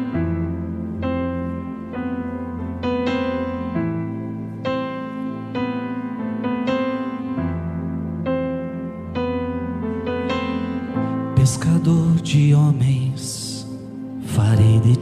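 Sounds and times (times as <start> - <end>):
slow piano playing: 0.0 - 15.0.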